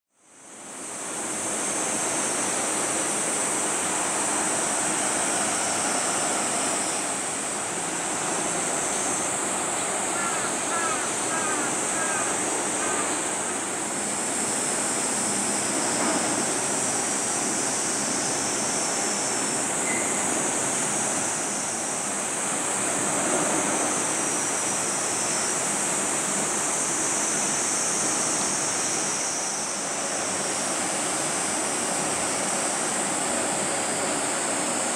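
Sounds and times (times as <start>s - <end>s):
high-pitched hiss: 0.3s - 34.9s.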